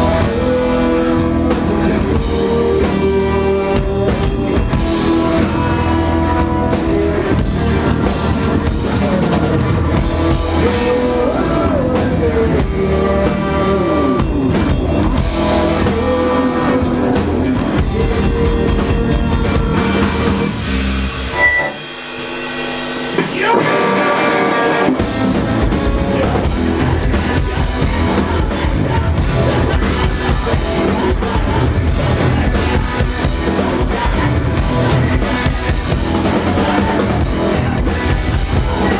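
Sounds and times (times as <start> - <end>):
drum kit: 0.0 - 38.9
electric guitar: 0.0 - 38.9
live rock band playing: 0.0 - 38.9.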